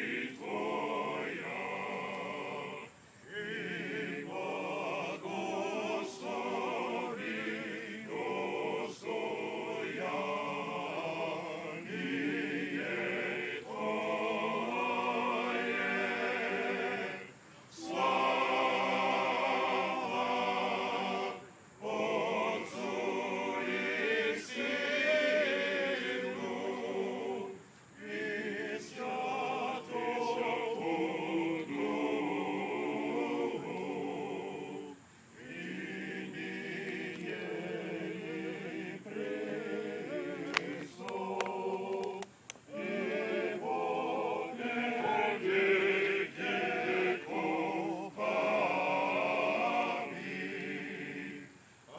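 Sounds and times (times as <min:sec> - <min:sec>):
men's choir singing unaccompanied: 0:00.0 - 0:51.9.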